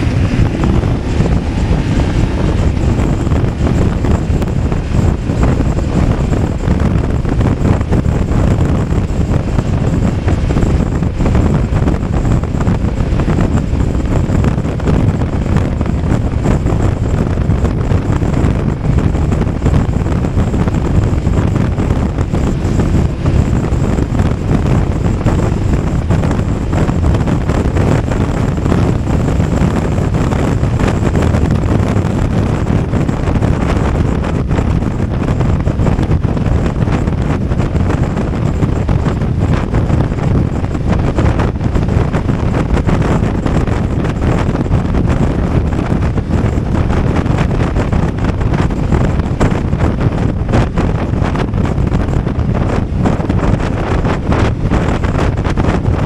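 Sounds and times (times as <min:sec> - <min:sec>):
motorcycle engine: 0:00.0 - 0:56.0
wind rush over microphone: 0:00.0 - 0:56.0.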